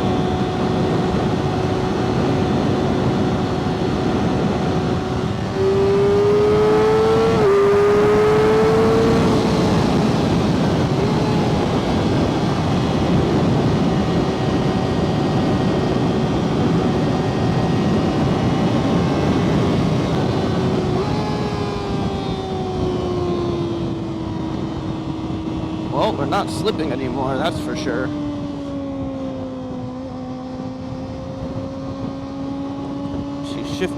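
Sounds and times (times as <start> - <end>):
motorcycle engine revving: 0.0 - 33.9
wind rush over microphone: 0.0 - 33.9.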